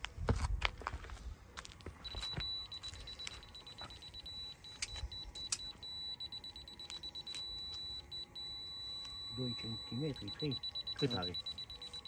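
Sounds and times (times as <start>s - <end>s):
laser receiver beeping: 2.0s - 12.0s.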